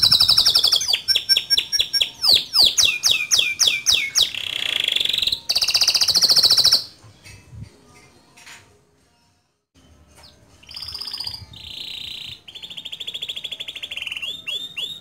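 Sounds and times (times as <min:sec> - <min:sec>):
canary singing: 0:00.0 - 0:07.5, 0:09.8 - 0:15.0.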